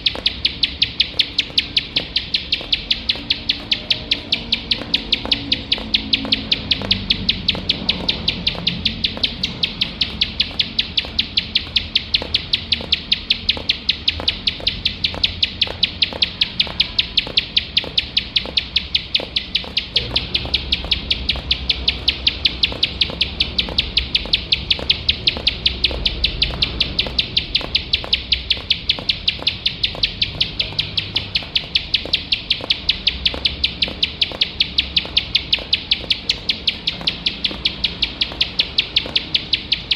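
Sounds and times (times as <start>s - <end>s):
bird calling sharp high notes: 0.0s - 39.9s.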